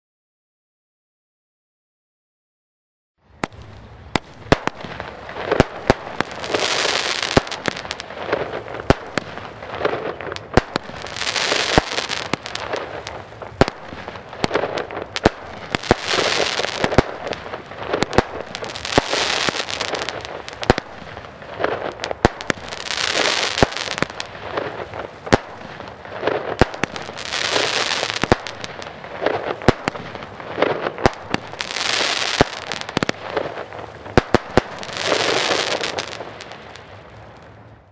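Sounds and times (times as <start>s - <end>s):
firework launch and burst bangs: 3.4s - 37.5s
hiss of burning firework stars: 3.4s - 37.9s.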